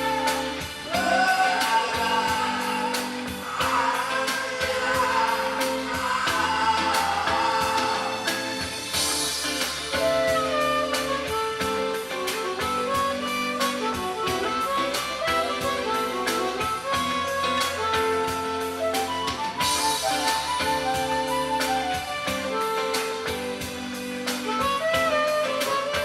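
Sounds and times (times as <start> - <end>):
instrumental melody: 0.0 - 26.0
steady drum beat: 0.0 - 26.0.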